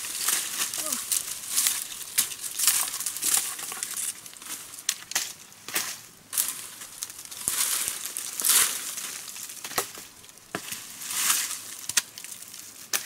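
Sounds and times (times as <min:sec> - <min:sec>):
crinkling and rustling: 0:00.0 - 0:12.7.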